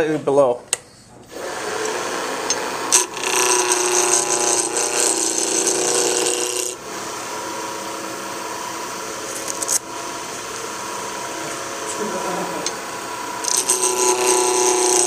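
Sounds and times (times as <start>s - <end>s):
gouge cutting spinning wood: 1.3s - 7.9s, 8.6s - 15.0s
wood lathe running: 1.3s - 15.0s.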